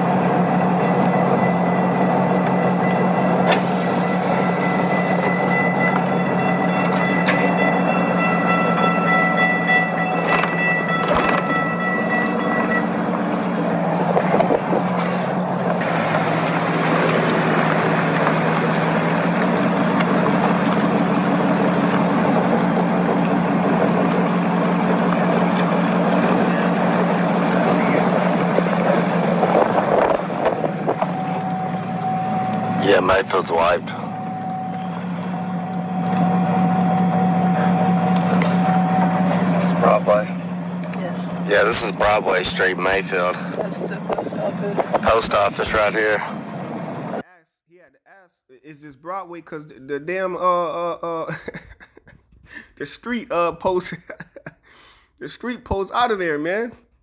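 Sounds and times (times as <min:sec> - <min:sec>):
car road and engine noise: 0:00.0 - 0:47.3.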